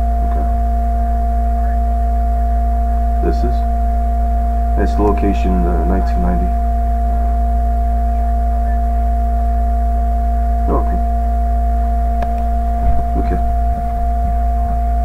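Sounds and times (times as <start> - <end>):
deep low drone: 0.0 - 15.0
loud steady hum: 0.0 - 15.0.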